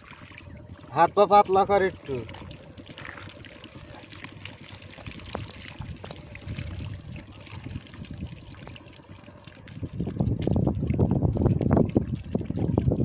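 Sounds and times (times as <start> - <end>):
shallow water splashing: 0.0 - 13.0.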